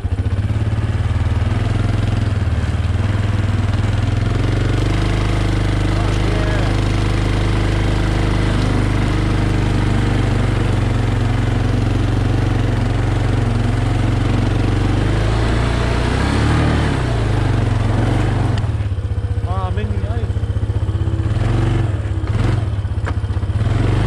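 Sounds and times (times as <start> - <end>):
atv engine running under load: 0.0 - 24.0.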